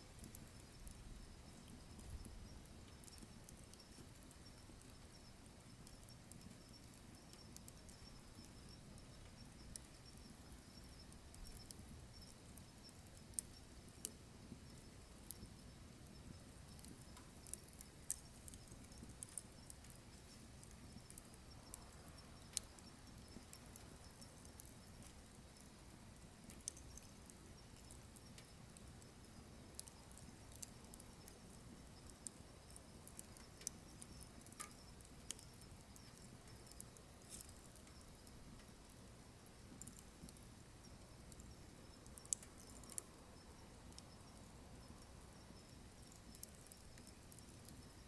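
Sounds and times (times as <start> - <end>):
low steady fire rumble: 0.0 - 48.0
wood fire crackling and popping: 0.0 - 48.0.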